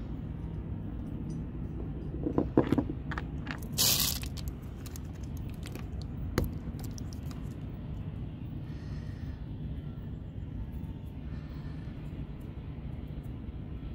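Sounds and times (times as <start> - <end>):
low background rumble: 0.0 - 13.9.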